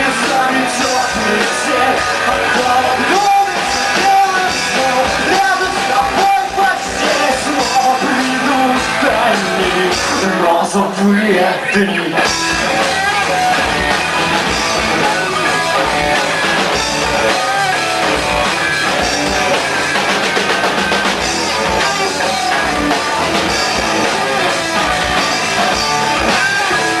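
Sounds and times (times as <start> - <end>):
drum kit beat: 0.0 - 10.5, 12.2 - 27.0
bass guitar: 0.0 - 27.0
electric guitars: 0.0 - 27.0.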